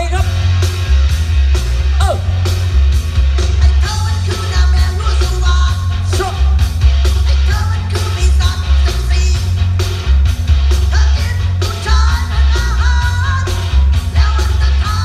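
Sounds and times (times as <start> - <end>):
song over loud sound system: 0.0 - 15.0.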